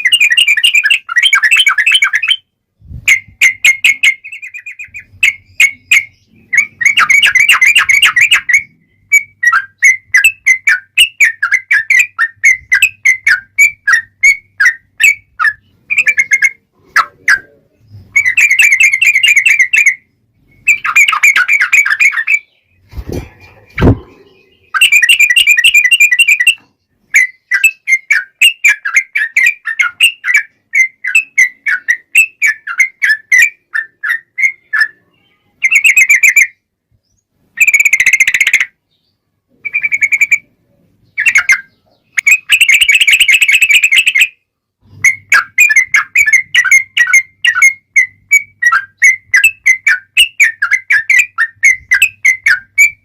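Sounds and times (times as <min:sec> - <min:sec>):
bulbul song chattering: 0:00.0 - 0:53.0.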